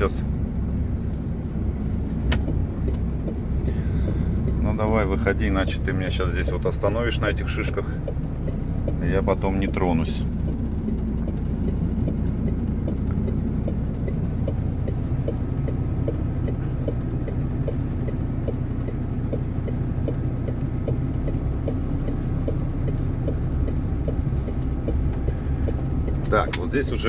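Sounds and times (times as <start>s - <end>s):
diesel truck engine rumbling: 0.0s - 27.0s
light regular ticking: 0.0s - 27.0s.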